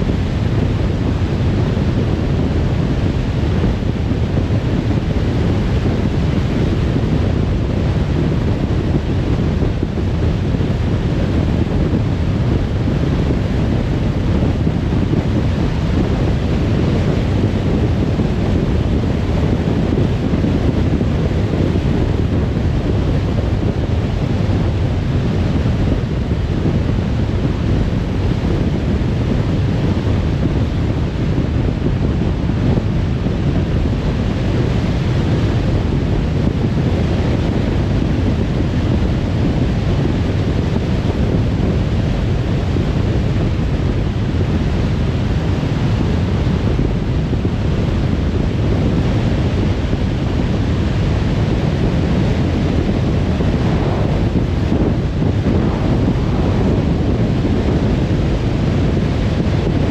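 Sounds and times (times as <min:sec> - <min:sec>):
wind noise of moving car: 0:00.0 - 0:59.9.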